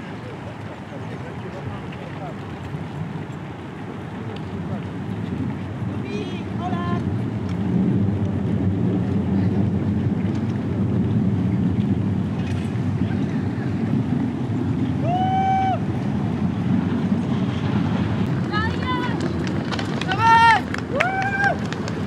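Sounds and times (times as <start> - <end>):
dense background noise: 0.0 - 22.0.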